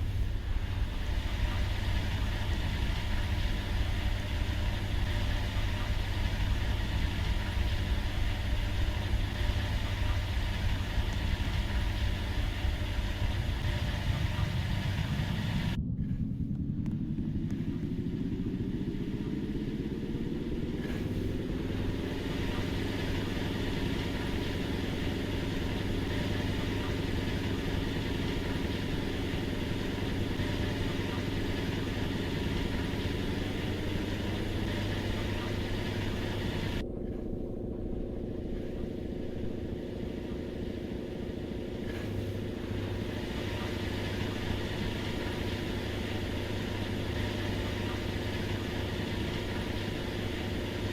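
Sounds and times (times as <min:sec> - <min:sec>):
washing machine spinning drum: 0:00.0 - 0:50.9.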